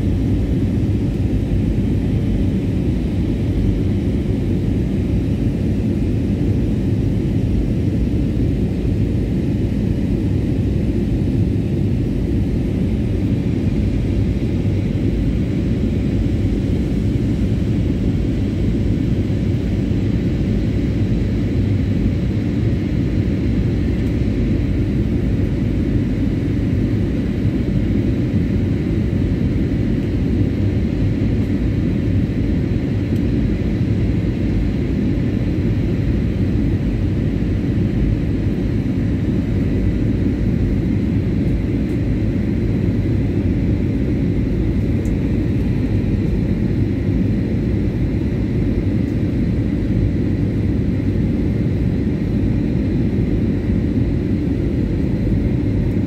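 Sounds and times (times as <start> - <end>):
airliner cabin rumble: 0.0 - 56.0
faint steady hum tones: 0.0 - 56.0.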